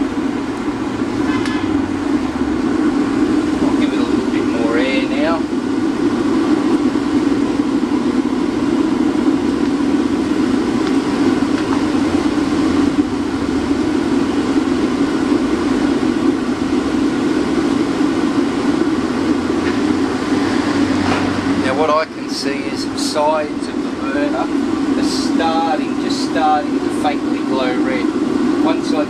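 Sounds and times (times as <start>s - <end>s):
oil burner blower rumble: 0.0s - 29.0s.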